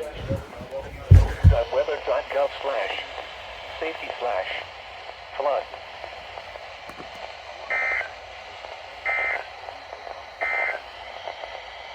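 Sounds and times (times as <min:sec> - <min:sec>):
radio hiss: 0:01.7 - 0:11.9.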